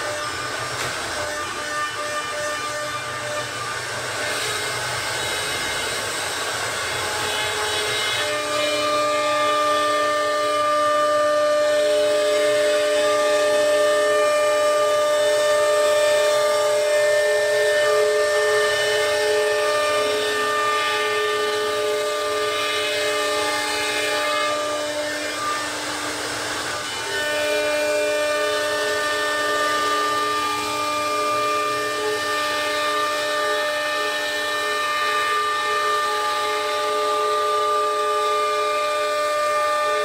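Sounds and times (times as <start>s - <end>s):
router spindle cutting wood: 0.0s - 40.0s.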